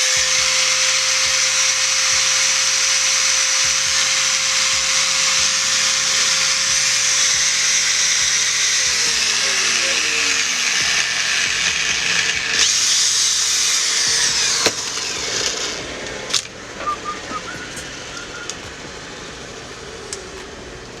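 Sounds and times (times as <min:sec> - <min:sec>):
angle grinder whirring: 0:00.0 - 0:21.0.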